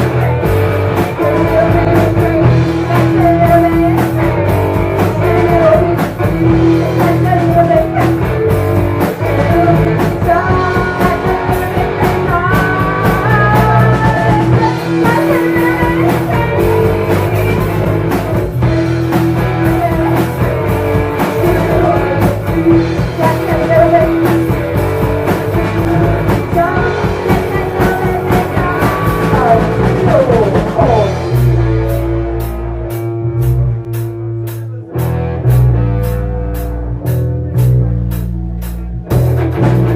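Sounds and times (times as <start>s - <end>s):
drum kit: 0.0s - 39.9s
electric guitar: 0.0s - 39.9s
heavy bass line: 0.0s - 39.9s.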